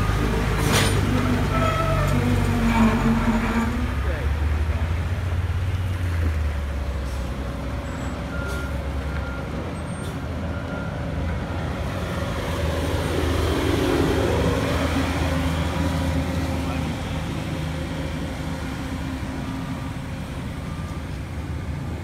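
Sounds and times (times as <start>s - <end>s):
diesel engines of heavy machinery: 0.0s - 22.0s.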